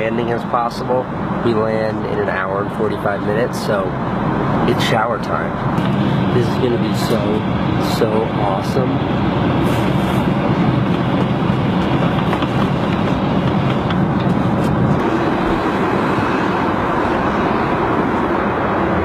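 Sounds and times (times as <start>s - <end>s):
airliner cabin engine drone: 0.0s - 19.0s.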